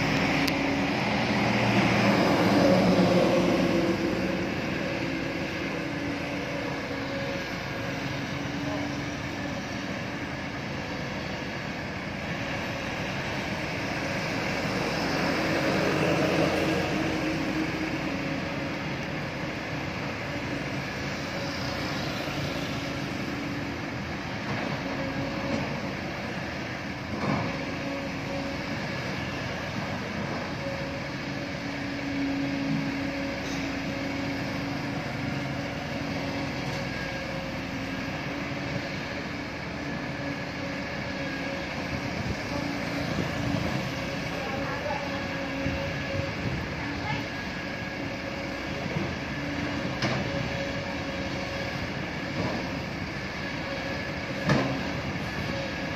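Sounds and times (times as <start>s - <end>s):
excavator diesel engine: 0.0s - 55.9s
passing road traffic: 0.0s - 55.9s.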